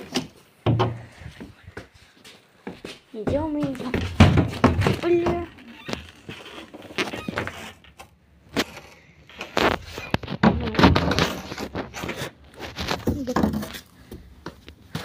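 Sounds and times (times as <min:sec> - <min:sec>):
footsteps: 0:00.0 - 0:07.8, 0:09.4 - 0:15.0.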